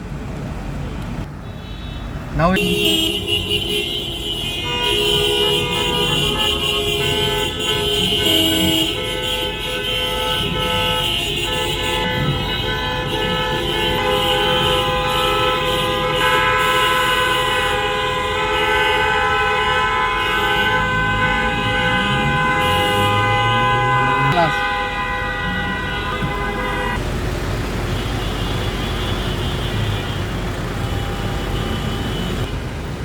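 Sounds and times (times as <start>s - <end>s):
traffic rumble: 0.0s - 33.0s
car horns honking: 0.9s - 32.7s.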